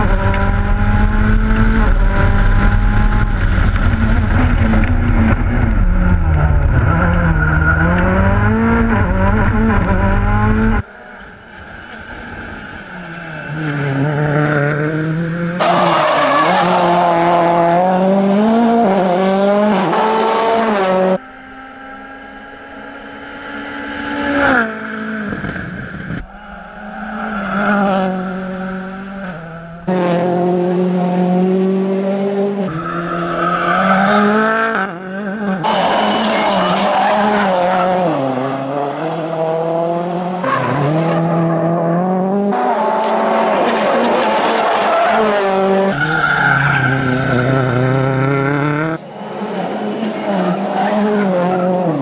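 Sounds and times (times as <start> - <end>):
rally car engine revving: 0.0 - 10.9, 12.5 - 52.0.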